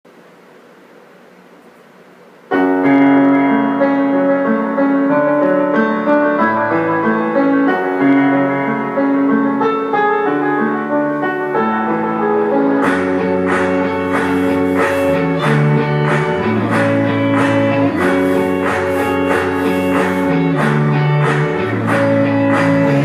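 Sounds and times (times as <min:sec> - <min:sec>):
piano chords: 0:02.5 - 0:23.0.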